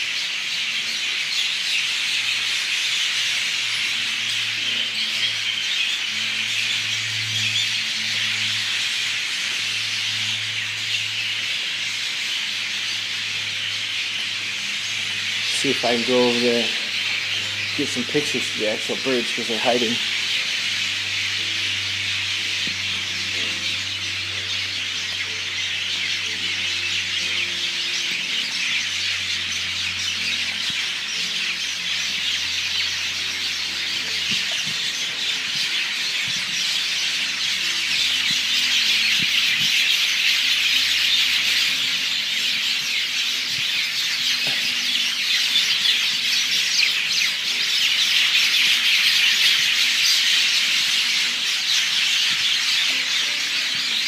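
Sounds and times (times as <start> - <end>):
flock of birds chattering: 0.0 - 54.0.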